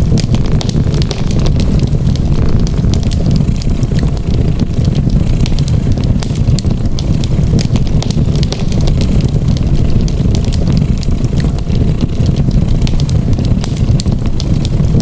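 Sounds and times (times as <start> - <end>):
cat purring: 0.0 - 15.0
wood fire crackling: 0.0 - 15.0.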